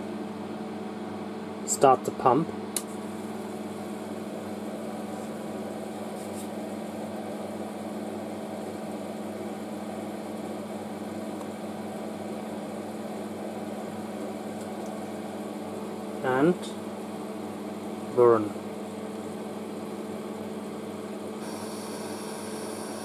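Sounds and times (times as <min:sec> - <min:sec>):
machine electrical hum: 0:00.0 - 0:23.0.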